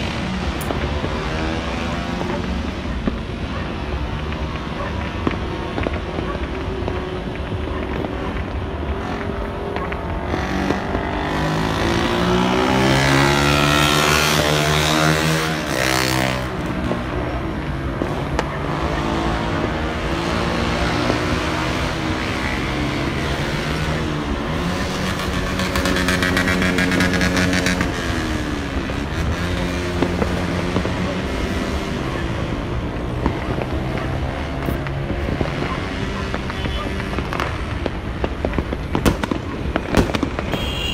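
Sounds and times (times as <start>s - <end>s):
motorcycle engines passing: 0.0s - 40.9s.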